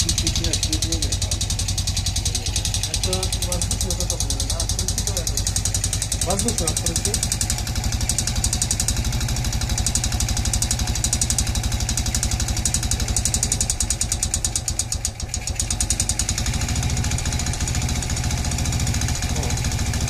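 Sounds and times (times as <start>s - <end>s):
engine idling: 0.0s - 20.0s
metallic engine knocking: 0.0s - 20.0s.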